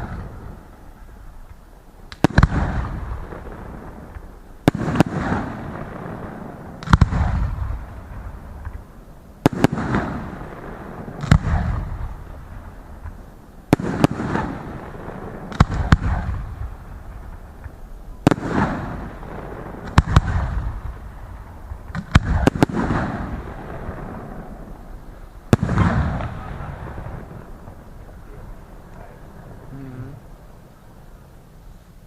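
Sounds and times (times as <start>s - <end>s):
crackling rumbling tail: 0.0s - 32.0s
fireworks bursting: 0.0s - 32.0s.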